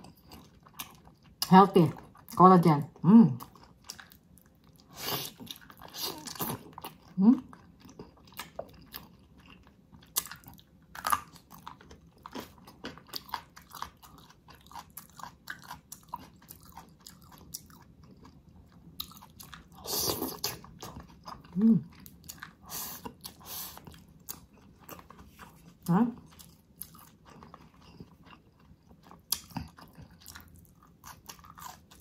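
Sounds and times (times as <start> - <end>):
chewing and wet mouth sounds: 0.0 - 32.0.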